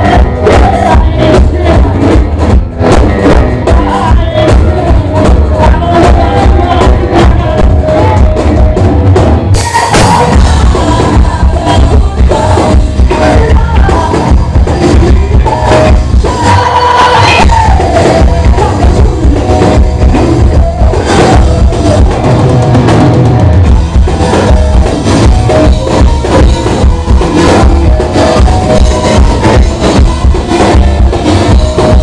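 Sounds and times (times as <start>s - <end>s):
bass drum and snare beat: 0.0s - 32.0s
rock band playing live: 0.0s - 32.0s.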